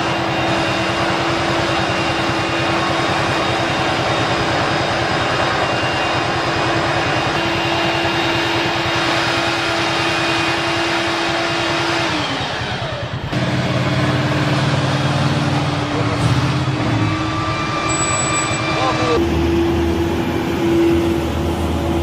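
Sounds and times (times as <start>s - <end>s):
engine deep hum: 0.0s - 22.0s
heavy vehicle engine droning: 0.0s - 22.0s.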